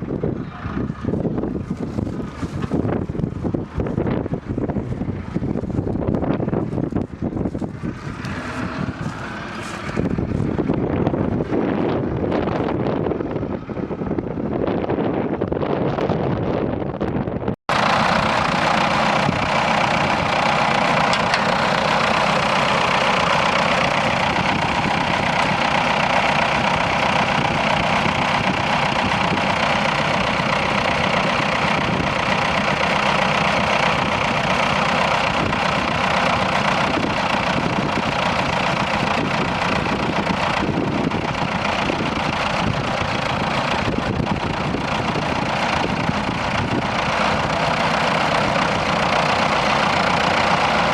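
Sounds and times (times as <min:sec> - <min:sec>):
tractor diesel engines running: 0:00.0 - 0:50.9.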